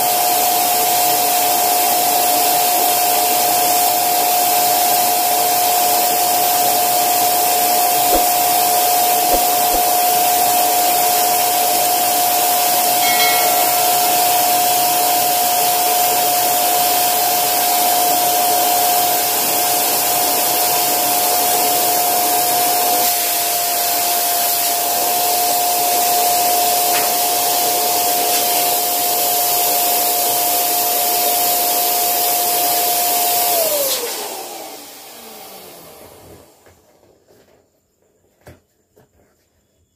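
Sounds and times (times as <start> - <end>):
electric air pump whine: 0.0 - 37.1.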